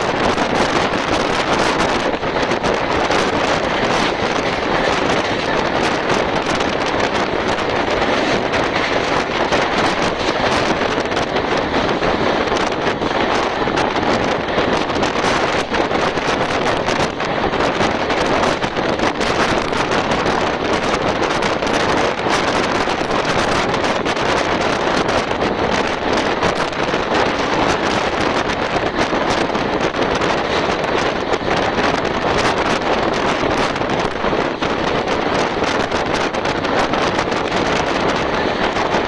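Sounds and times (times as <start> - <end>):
train running noise: 0.0 - 39.0
wind buffeting microphone: 0.0 - 39.0.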